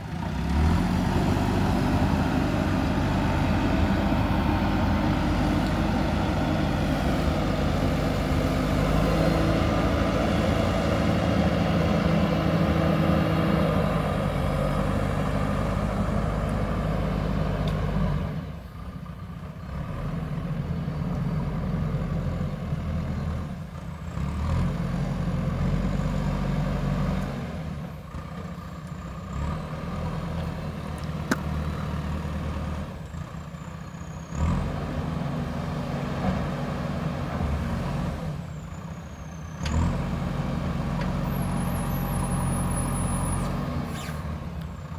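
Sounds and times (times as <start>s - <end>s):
backhoe diesel engine working: 0.0s - 44.9s.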